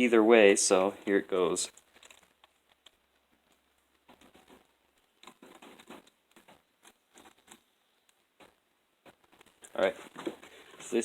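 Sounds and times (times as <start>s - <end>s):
plastic clicks and scrapes: 1.7s - 10.9s.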